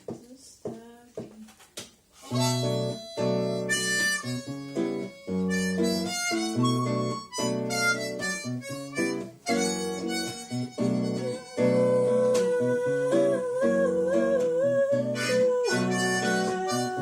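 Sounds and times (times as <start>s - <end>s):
acoustic guitar accompaniment: 2.2s - 17.0s
harmonica playing chords: 2.3s - 17.0s.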